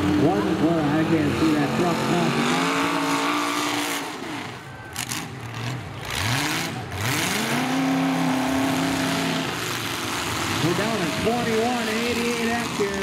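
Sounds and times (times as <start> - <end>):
truck engines revving: 0.0 - 13.0.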